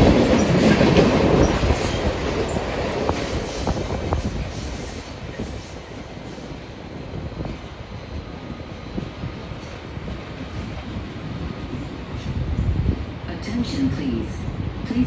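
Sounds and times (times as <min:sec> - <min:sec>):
train rolling past on rails: 0:00.0 - 0:15.0.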